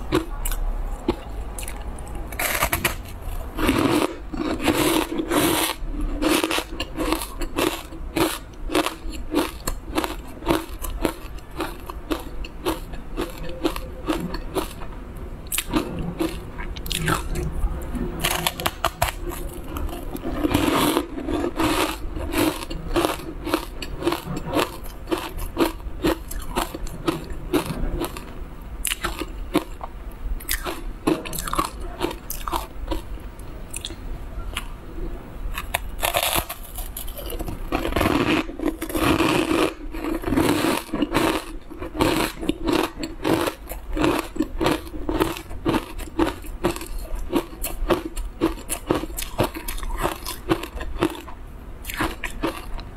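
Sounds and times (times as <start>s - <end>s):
crunching and chewing: 0.0s - 34.8s, 35.5s - 52.9s.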